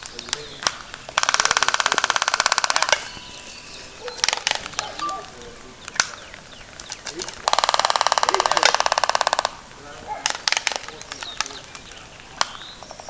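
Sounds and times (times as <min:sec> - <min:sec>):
albatross bill clacking: 0:00.0 - 0:13.0.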